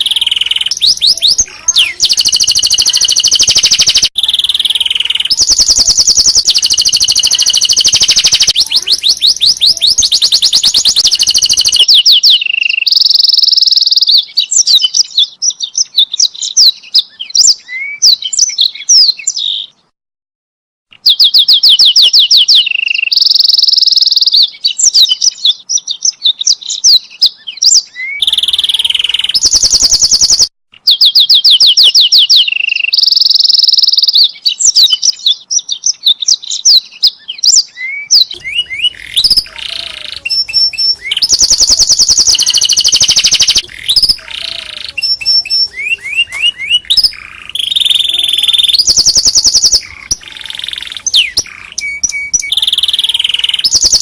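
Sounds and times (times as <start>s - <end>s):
canary singing trills: 0.0s - 19.9s, 21.0s - 54.0s.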